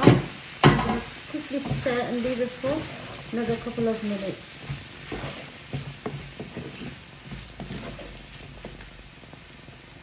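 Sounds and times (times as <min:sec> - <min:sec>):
food sizzling in frying pan: 0:00.0 - 0:10.0
wooden spatula stirring in pan: 0:00.0 - 0:10.0.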